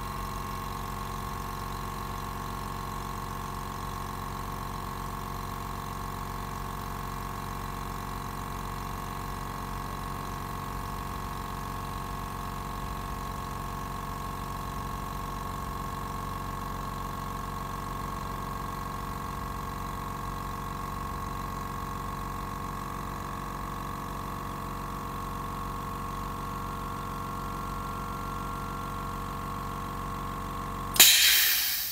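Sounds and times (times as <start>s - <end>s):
air compressor humming and whining: 0.0s - 31.9s.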